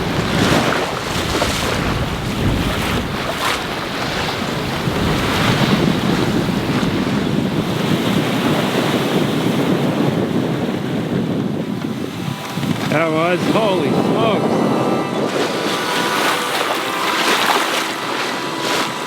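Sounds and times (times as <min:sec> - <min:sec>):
breaking waves: 0:00.0 - 0:19.0
water along boat hull: 0:00.0 - 0:19.0
wind buffeting microphone: 0:00.0 - 0:19.0.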